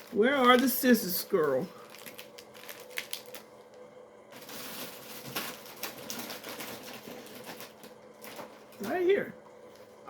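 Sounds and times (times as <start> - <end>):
packaging rustling: 0.0 - 9.1.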